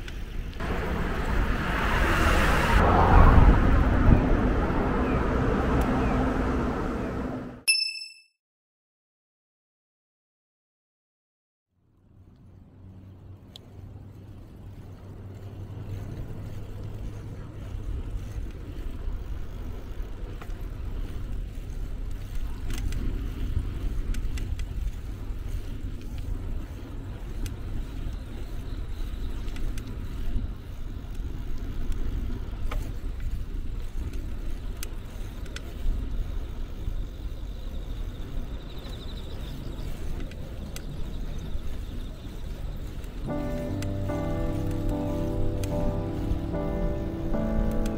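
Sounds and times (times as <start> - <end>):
wind and road noise: 0.0 - 7.7, 11.8 - 47.9.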